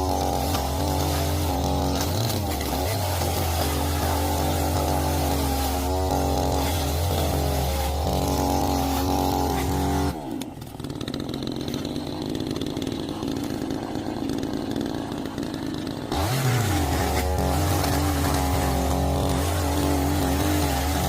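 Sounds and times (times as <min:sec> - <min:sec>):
chainsaw revving and idling: 0:00.0 - 0:21.0.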